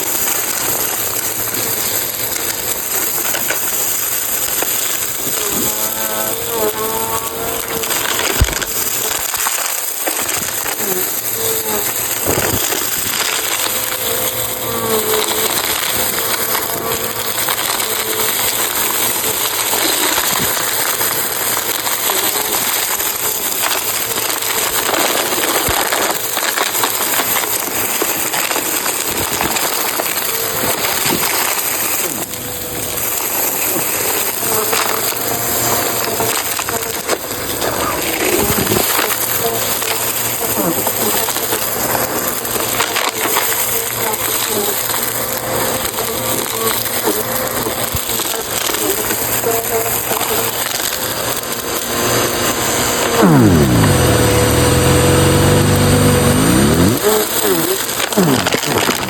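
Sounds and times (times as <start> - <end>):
sharp clicks of debris: 0.0 - 6.3, 7.6 - 59.0
upright vacuum running over rug: 0.0 - 59.0
debris rattling through vacuum: 7.2 - 59.0.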